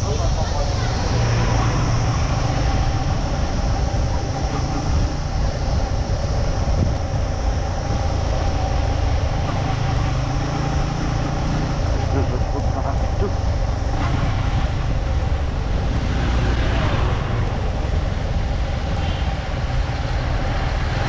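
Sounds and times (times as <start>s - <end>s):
motorcycle engine running: 0.0s - 21.0s
wind rumble on microphone: 0.0s - 21.0s.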